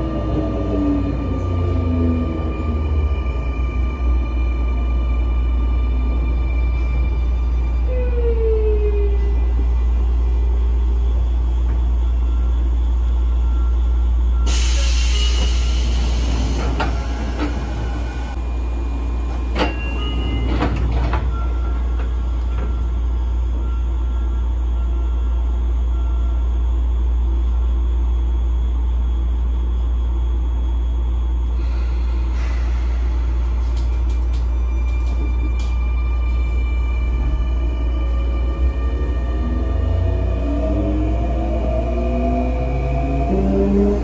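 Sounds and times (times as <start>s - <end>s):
train equipment humming: 0.0s - 44.0s.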